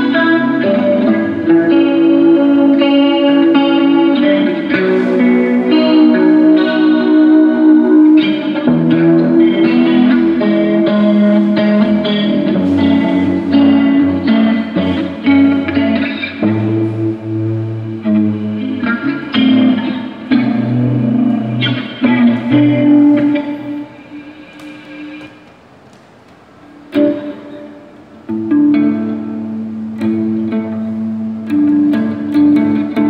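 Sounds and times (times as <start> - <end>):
electric guitar chords: 0.0 - 33.0.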